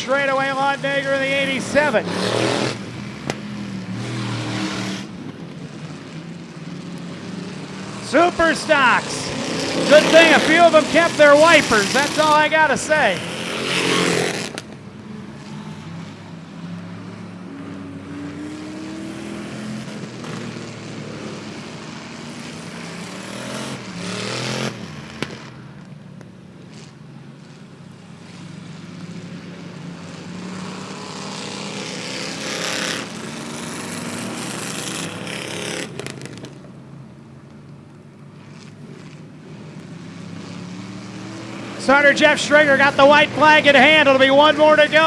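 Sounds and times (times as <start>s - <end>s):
race car engines revving: 0.0s - 45.0s.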